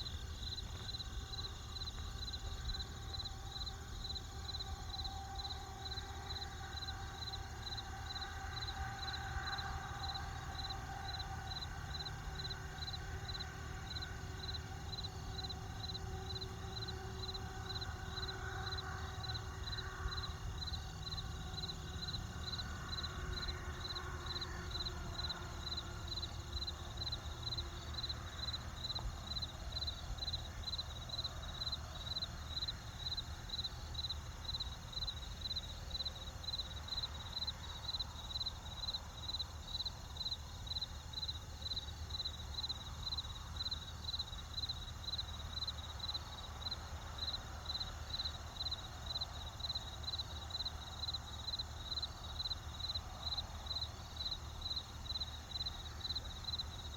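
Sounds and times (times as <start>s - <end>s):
cricket chirping: 0.0s - 56.9s.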